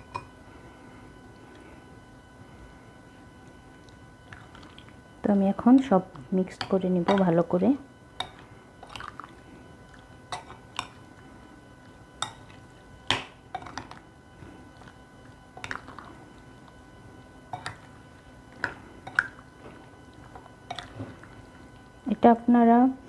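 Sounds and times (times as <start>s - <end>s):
wet squelches of mixing: 2.7s - 22.3s.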